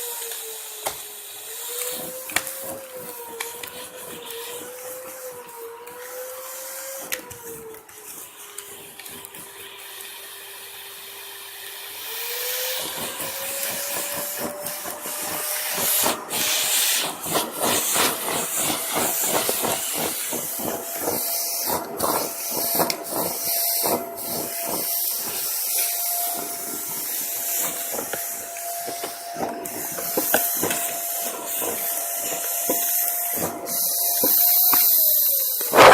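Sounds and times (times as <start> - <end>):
vacuum cleaner motor whining: 0.0 - 35.9.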